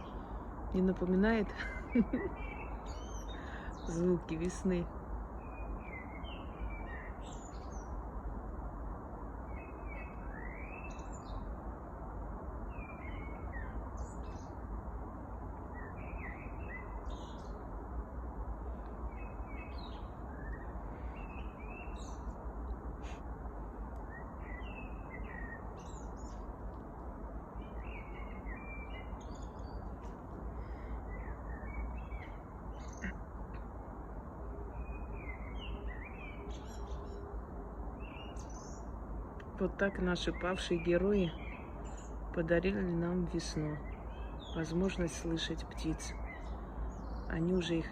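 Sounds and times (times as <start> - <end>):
small birds singing: 0.0 - 8.3, 9.3 - 11.7, 12.4 - 47.9
low background rush: 0.0 - 47.9.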